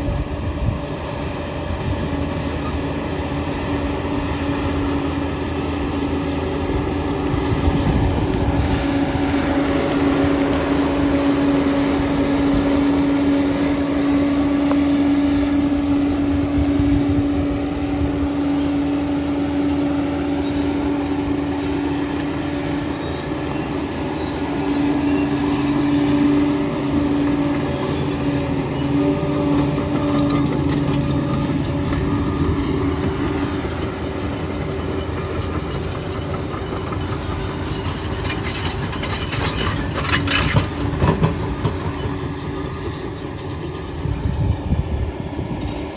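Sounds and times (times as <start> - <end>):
dozer diesel engine running: 0.0 - 45.9
steel tracks rattling: 0.0 - 45.9.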